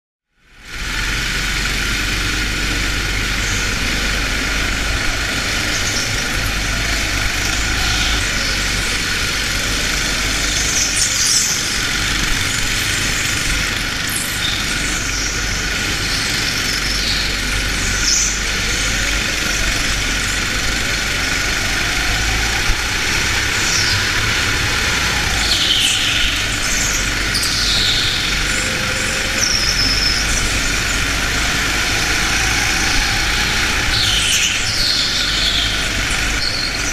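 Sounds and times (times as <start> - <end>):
kart motor running: 0.3 - 36.9.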